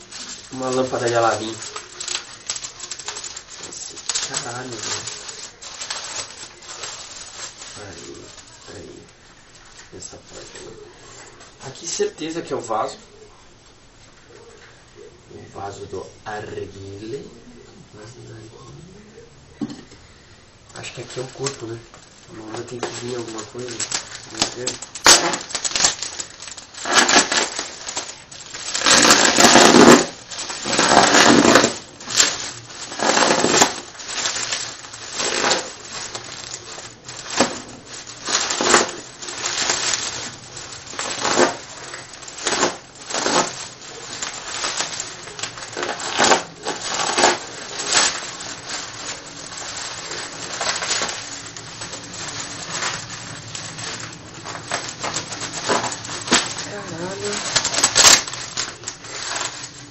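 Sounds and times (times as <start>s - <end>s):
bubble wrap crinkling: 0.0s - 18.4s, 20.1s - 59.9s.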